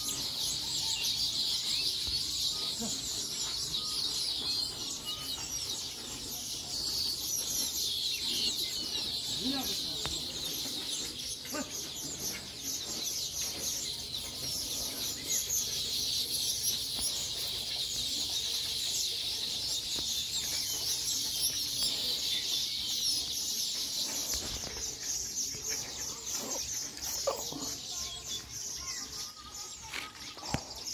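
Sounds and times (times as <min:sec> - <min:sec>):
flock of birds chirping: 0:00.0 - 0:30.9.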